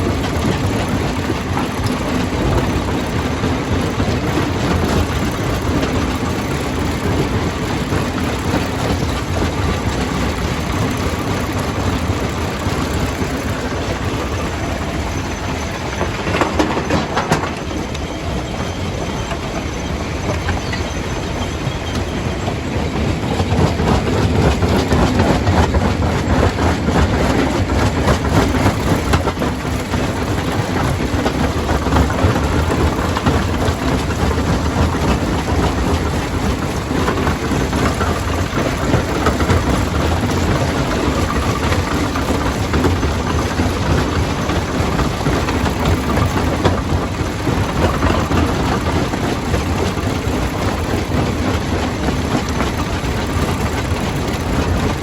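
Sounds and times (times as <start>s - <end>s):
stone crusher rumbling and rattling: 0.0s - 55.0s.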